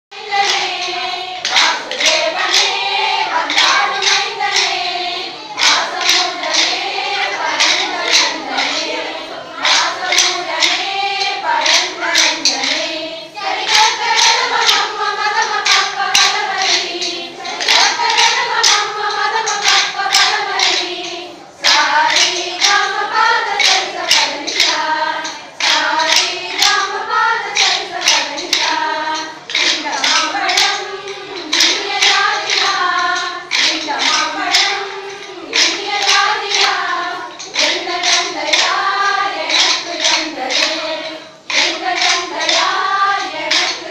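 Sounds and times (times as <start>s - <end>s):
group singing in unison: 0.1s - 43.9s
hands clapping a steady beat: 0.1s - 43.9s.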